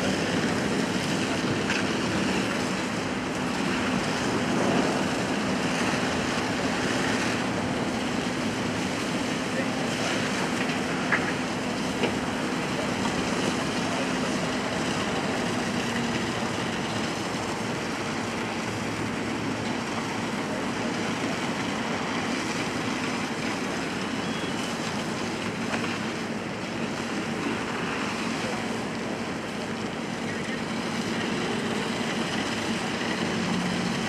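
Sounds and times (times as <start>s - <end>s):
engine humming: 0.0s - 34.0s
water spraying on hot debris: 0.0s - 34.0s.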